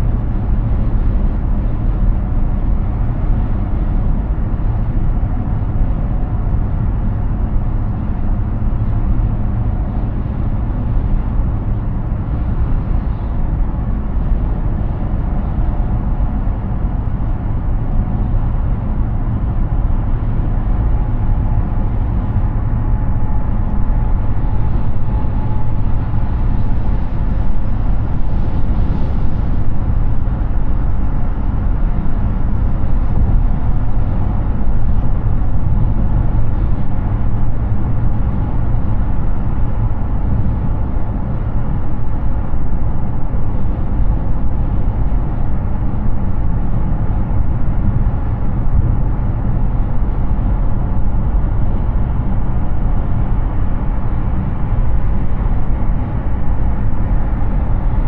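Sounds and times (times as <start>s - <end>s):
road and tyre noise: 0.0s - 58.0s.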